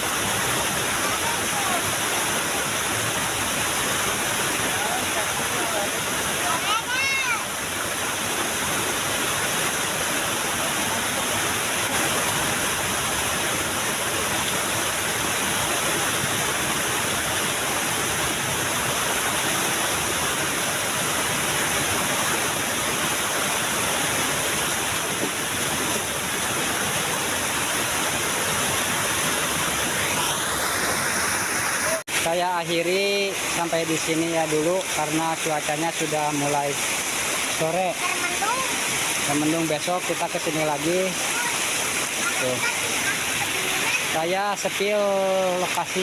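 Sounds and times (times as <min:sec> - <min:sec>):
small waterfall rushing: 0:00.0 - 0:46.0.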